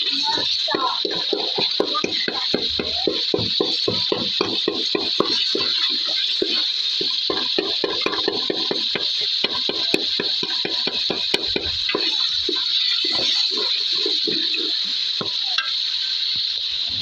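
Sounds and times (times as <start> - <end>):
food sizzling in a pan: 0.0 - 17.0
spoon knocking against pan: 0.4 - 14.5.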